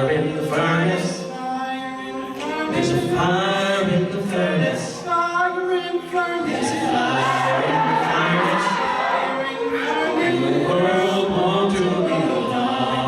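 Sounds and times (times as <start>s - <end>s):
a cappella group singing in harmony: 0.0s - 13.0s.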